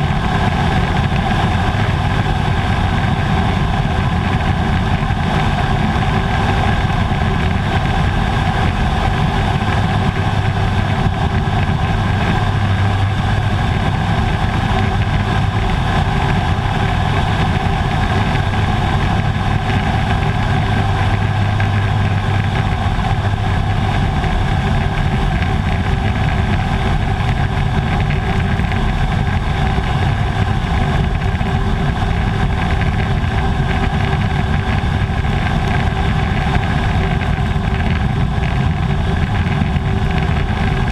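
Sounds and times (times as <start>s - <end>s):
turboprop engine droning: 0.0s - 40.9s.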